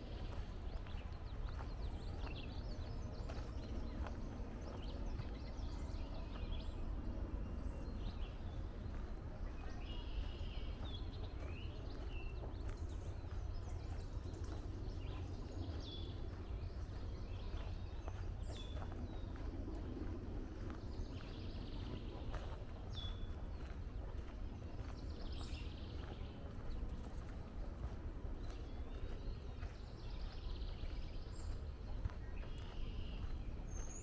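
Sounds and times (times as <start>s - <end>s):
footsteps on a woodland trail: 0.0s - 34.0s
songbirds chirping: 0.0s - 34.0s
steady low rumble: 0.0s - 34.0s.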